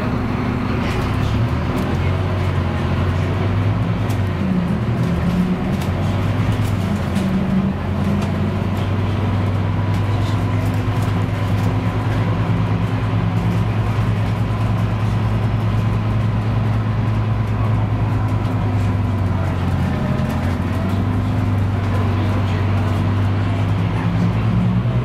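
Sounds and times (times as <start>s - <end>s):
bus diesel engine humming: 0.0s - 25.0s
road and body noise: 0.0s - 25.0s.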